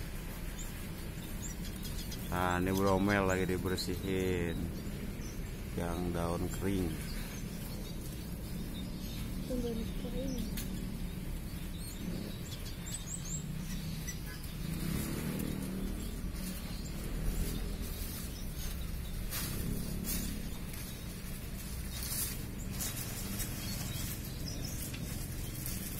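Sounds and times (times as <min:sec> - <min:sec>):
finches chirping: 0:00.0 - 0:25.9
low background rumble: 0:00.0 - 0:25.9.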